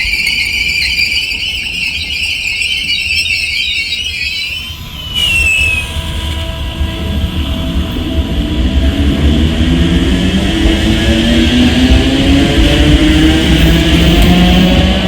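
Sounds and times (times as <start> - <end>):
train high squeal: 0.0 - 9.4, 10.7 - 15.0
train low whine rising: 0.0 - 15.0.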